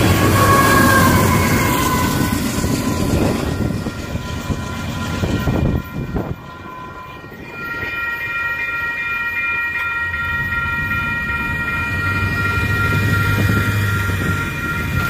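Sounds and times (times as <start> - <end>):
crossing warning bell dinging: 0.0 - 15.0.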